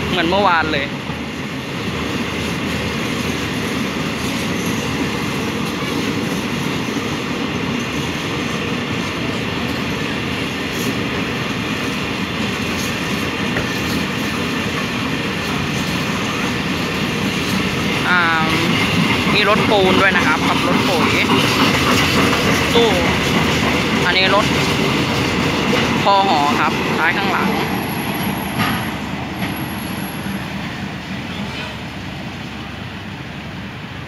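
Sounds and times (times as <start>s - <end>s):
steel wheels rumbling on rails: 0.0s - 34.0s.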